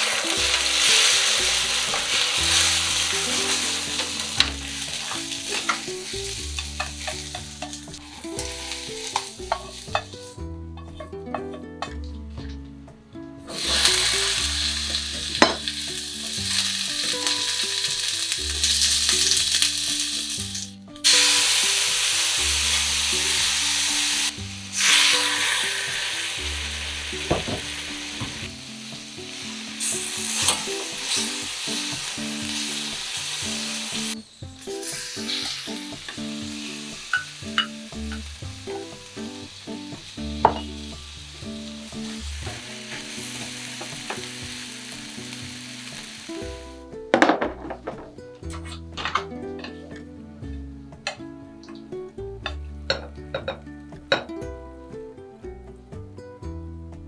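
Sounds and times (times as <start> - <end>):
peppers sizzling in hot oil: 0.0 - 11.9, 13.5 - 47.5.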